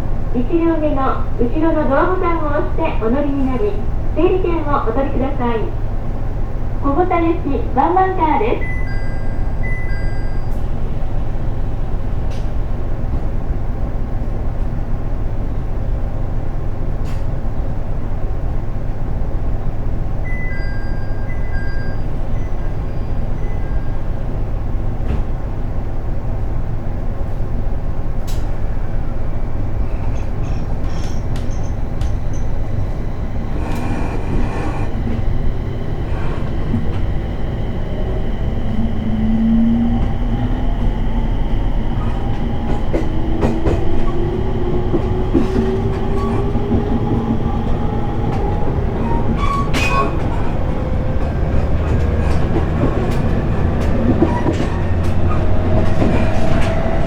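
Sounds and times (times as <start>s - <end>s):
train equipment humming: 0.0s - 57.0s.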